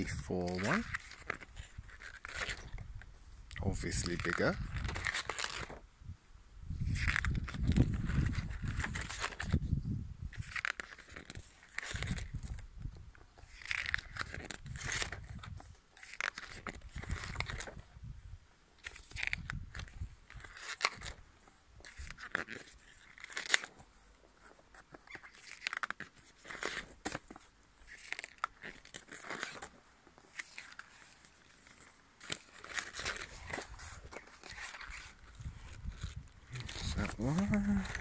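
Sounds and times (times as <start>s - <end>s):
paper pages flipping: 0.0s - 3.1s, 3.8s - 5.8s, 6.9s - 9.6s, 10.3s - 12.6s, 13.2s - 17.8s, 18.8s - 21.2s, 21.8s - 38.0s.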